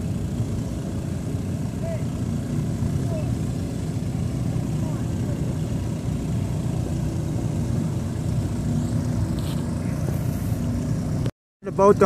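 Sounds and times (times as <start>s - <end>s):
boat engines idling: 0.0s - 12.0s.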